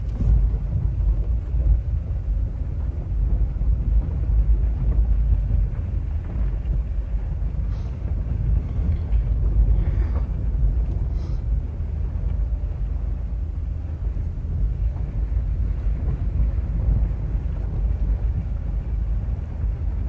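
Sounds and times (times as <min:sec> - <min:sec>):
car rumble on gravel: 0:00.0 - 0:20.0.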